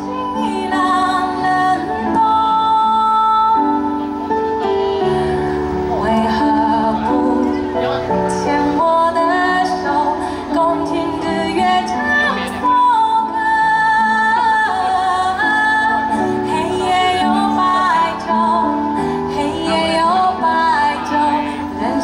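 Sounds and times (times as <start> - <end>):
instrumental backing music: 0.0 - 22.0
woman singing slow melody: 0.0 - 22.0.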